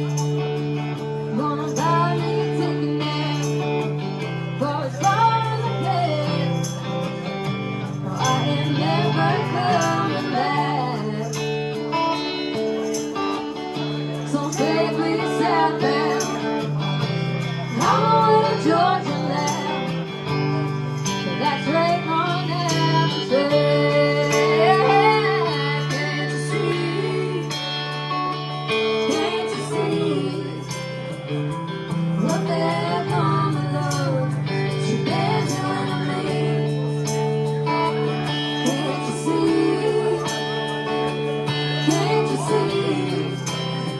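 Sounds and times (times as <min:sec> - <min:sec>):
rock band instrumental: 0:00.0 - 0:43.9
sliding lead guitar melody: 0:00.0 - 0:43.9.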